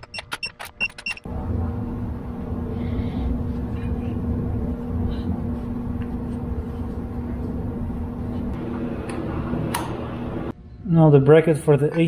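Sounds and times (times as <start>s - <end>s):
low machine hum: 1.2s - 10.9s.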